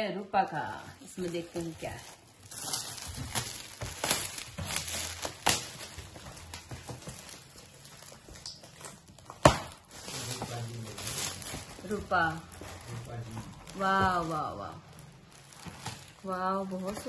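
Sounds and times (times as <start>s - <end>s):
foil gift wrap crinkling: 0.3s - 17.0s.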